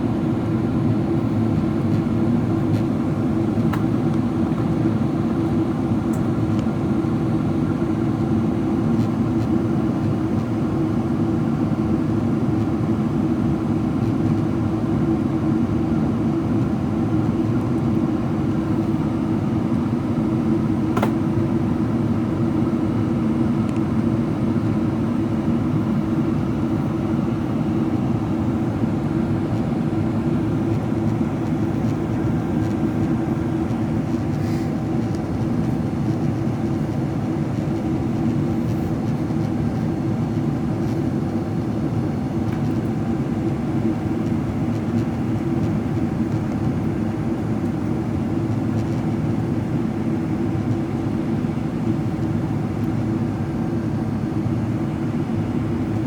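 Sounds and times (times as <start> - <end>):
airplane cabin drone: 0.0 - 56.0
faint steady hums: 0.0 - 56.0.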